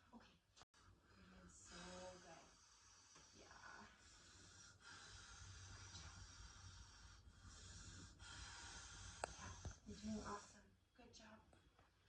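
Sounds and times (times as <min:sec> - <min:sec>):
woman breathing heavily: 0:00.8 - 0:10.8.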